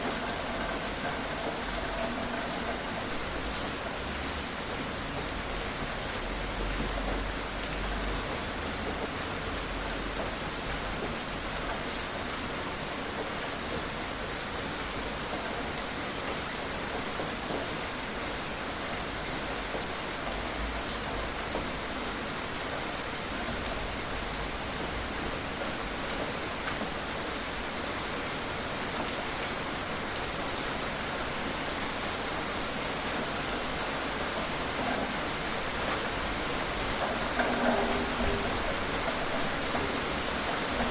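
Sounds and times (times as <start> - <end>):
raindrops ticking: 0.0 - 28.2, 32.8 - 40.9
gentle rain hiss: 0.0 - 40.9.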